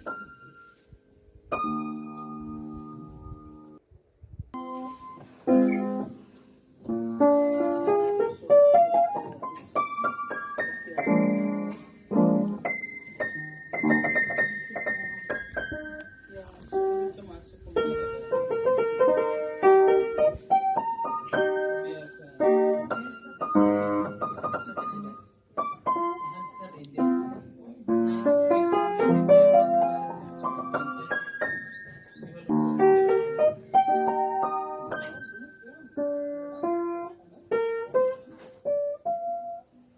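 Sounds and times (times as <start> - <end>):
piano music: 0.0 - 3.8, 4.6 - 39.9.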